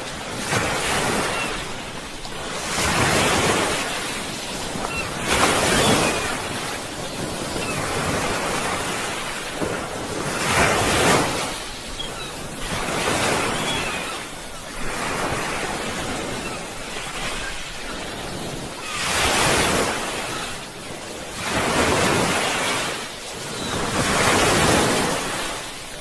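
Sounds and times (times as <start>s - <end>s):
sea waves breaking on shore: 0.0s - 26.0s.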